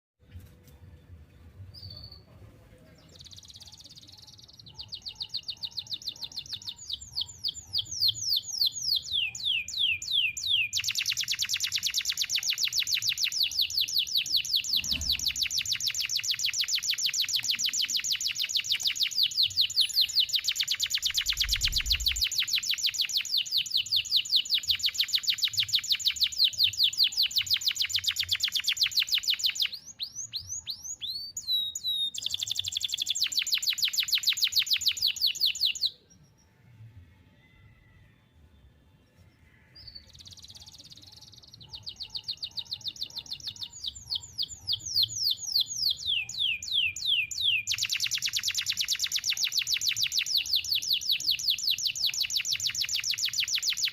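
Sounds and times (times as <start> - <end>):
canary singing trills: 3.0 - 36.6, 39.4 - 53.9.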